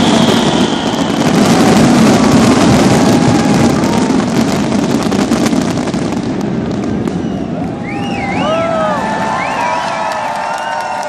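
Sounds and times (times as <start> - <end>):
fireworks barrage crackling: 0.0 - 11.0.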